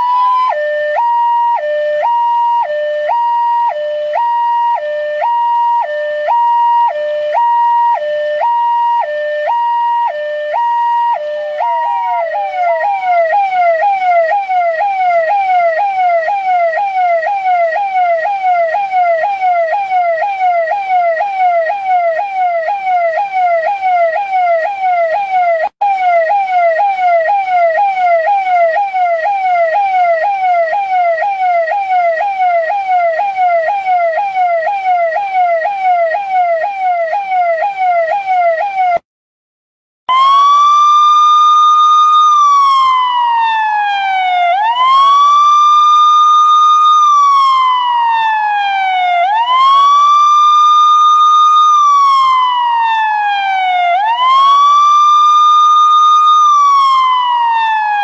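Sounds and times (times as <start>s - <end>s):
electronic police siren: 0.0s - 39.0s, 40.1s - 58.0s.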